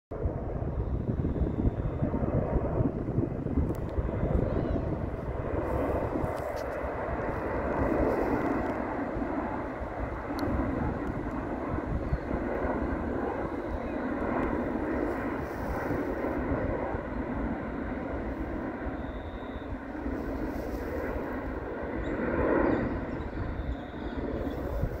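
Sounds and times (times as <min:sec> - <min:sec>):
jet airliner passing overhead: 0:00.1 - 0:25.0.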